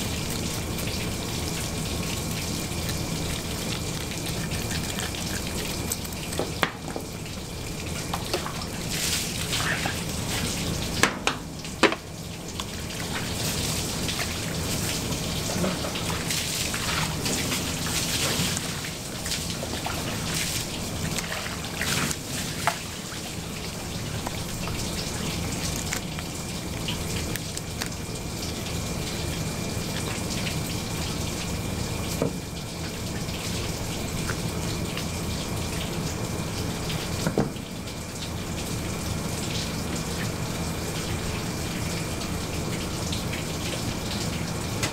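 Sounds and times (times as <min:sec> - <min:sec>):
water running from a tap: 0:00.0 - 0:44.9.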